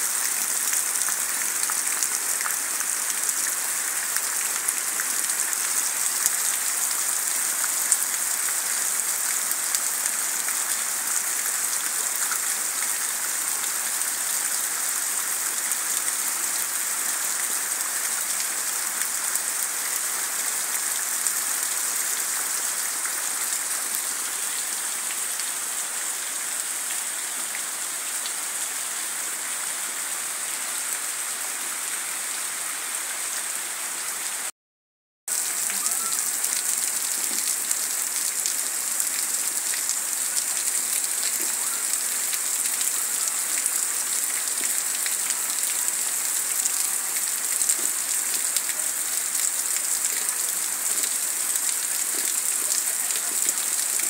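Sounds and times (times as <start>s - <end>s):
heavy rain on leaves: 0.0s - 34.5s, 35.3s - 54.0s.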